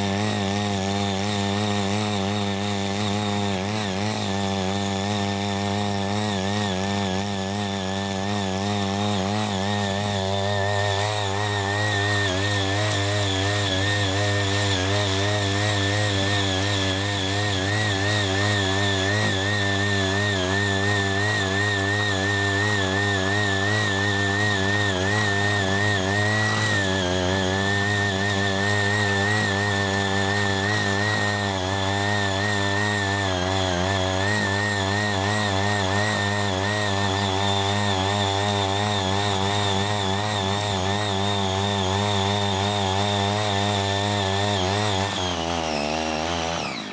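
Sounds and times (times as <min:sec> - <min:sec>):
small petrol tiller engine running: 0:00.0 - 0:46.9.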